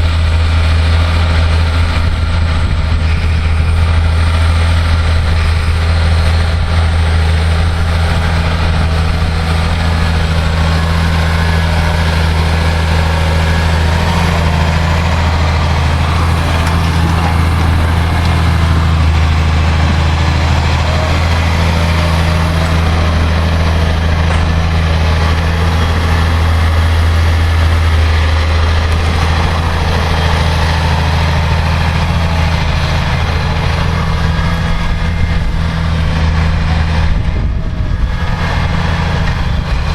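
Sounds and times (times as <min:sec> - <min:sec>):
tractor diesel engine droning: 0:00.0 - 0:39.9.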